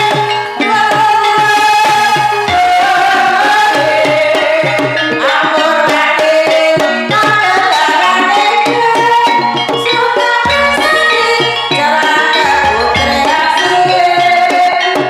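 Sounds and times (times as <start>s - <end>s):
hand drums playing: 0.0s - 15.0s
person singing ornamented melody: 0.0s - 15.0s
sustained metallophone tones: 0.0s - 15.0s.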